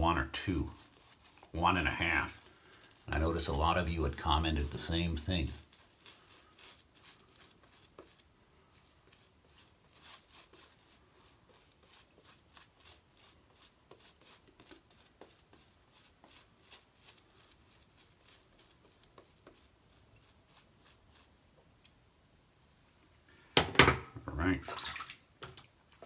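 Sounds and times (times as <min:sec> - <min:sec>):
shaving brush strokes on face: 0:00.1 - 0:21.4.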